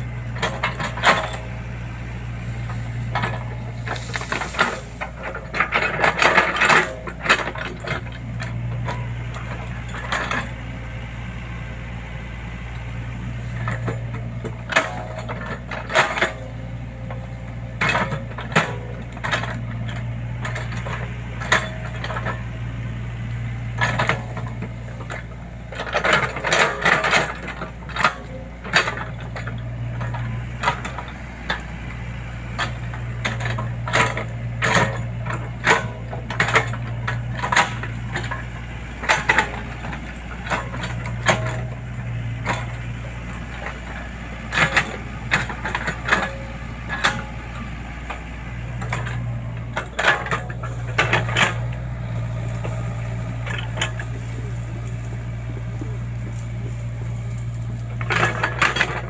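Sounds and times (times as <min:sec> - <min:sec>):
metallic clanks and rattles: 0:00.0 - 0:11.7, 0:12.7 - 0:59.0
diesel engine humming: 0:00.0 - 0:59.0.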